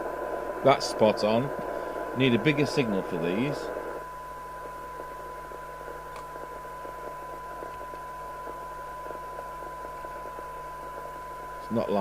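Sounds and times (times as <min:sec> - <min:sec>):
low mains hum: 0:00.0 - 0:12.0
radio hiss and crackle: 0:00.0 - 0:12.0
steady test tone: 0:00.0 - 0:12.0.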